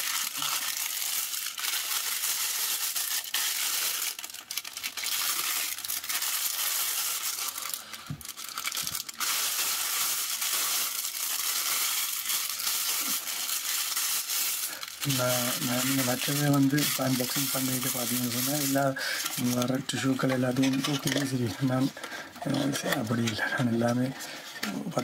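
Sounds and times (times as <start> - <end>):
tissue paper crinkling: 0.0 - 25.0.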